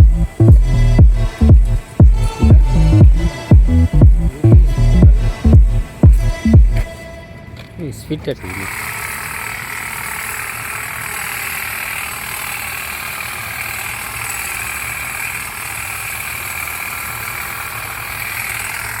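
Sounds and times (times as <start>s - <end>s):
hedge trimmer buzzing: 0.0s - 7.7s, 8.4s - 19.0s.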